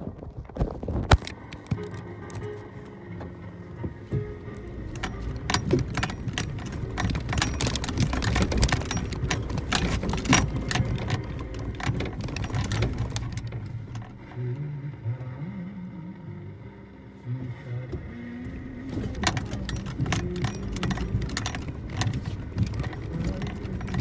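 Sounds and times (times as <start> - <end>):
knocks and rattles of vehicle: 0.6 - 15.5, 17.0 - 24.0
car engine running low: 1.2 - 24.0.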